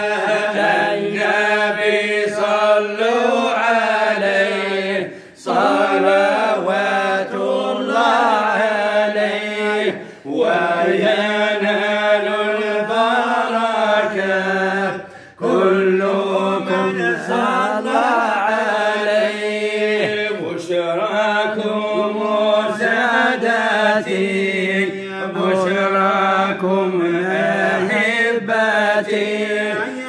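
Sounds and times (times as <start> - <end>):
men chanting devotional praise: 0.0 - 30.0.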